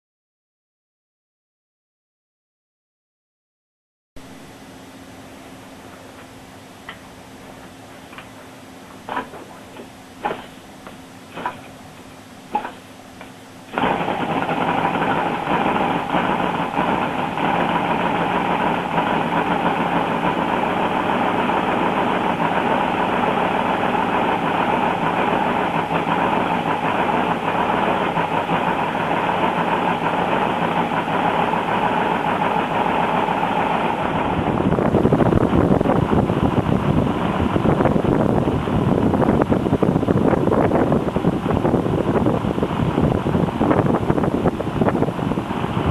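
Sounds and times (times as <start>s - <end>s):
model radial engine running: 7.3s - 45.9s.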